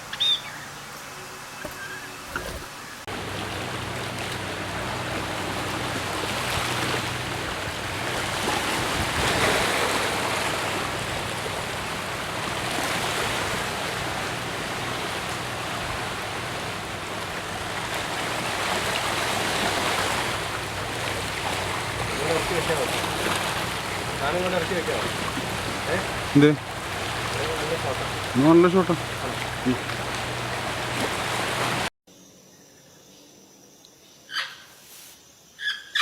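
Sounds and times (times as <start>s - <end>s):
rushing water: 0.1s - 31.9s
low motor hum: 1.6s - 31.9s.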